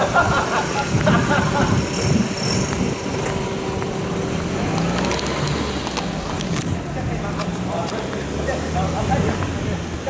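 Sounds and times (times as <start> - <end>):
motor vehicle running on road: 0.0 - 10.0.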